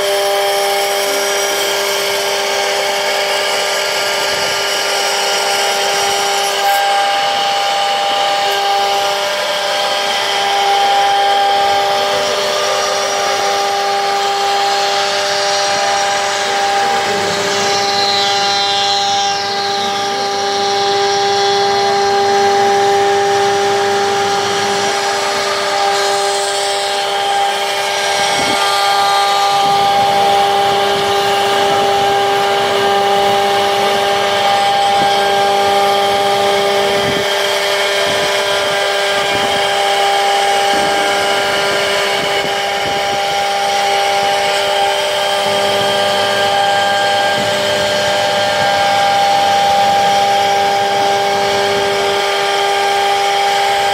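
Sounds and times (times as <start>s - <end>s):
cnc router spindle whining: 0.0s - 53.9s.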